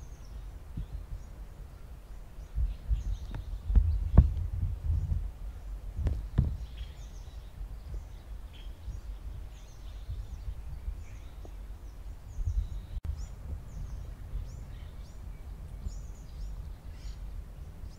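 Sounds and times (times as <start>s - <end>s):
small birds chirping: 0.0s - 17.9s
steady low rumble: 0.0s - 17.9s.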